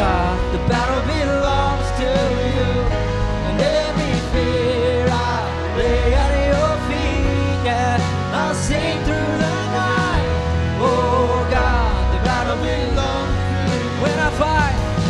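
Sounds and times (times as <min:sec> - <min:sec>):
bass guitar: 0:00.0 - 0:15.0
drums: 0:00.0 - 0:15.0
electric guitar: 0:00.0 - 0:15.0
person singing: 0:00.0 - 0:15.0.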